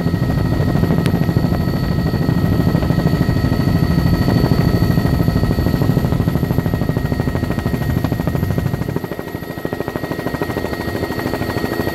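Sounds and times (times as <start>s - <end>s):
helicopter high whine: 0.0s - 11.9s
helicopter rotor chopping: 0.0s - 11.9s.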